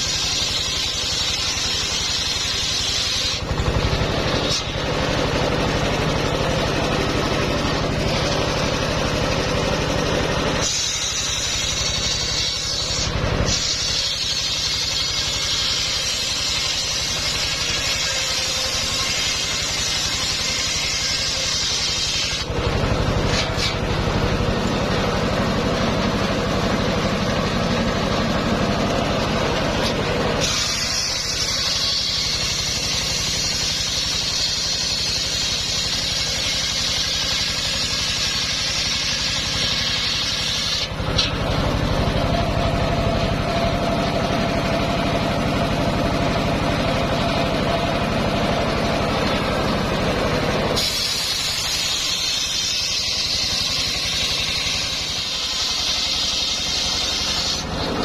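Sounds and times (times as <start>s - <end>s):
circular sawmill sawing: 0.0s - 58.0s
high hissing whine: 6.3s - 41.0s, 41.7s - 58.0s.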